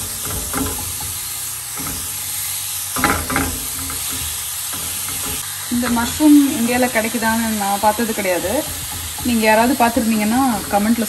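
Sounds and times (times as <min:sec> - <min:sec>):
spatula scraping and stirring: 0:00.0 - 0:06.9, 0:07.8 - 0:11.0
mushrooms sizzling in a frying pan: 0:00.0 - 0:11.0.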